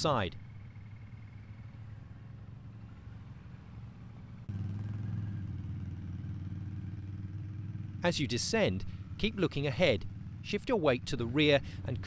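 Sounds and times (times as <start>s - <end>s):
quad bike engines droning: 0.0s - 12.0s.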